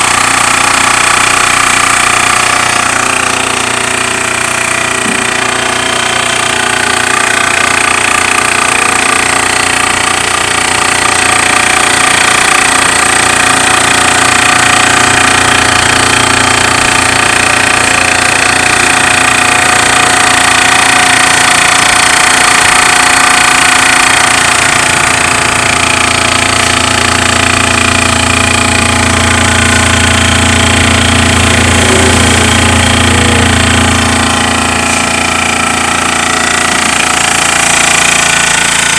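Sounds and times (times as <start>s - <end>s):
air compressor chattering: 0.0s - 38.9s
deep hum: 0.0s - 38.9s.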